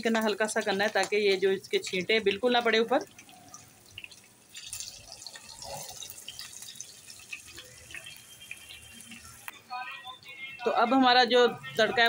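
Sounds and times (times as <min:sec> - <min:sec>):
spices sizzling in hot ghee: 0:00.0 - 0:09.7.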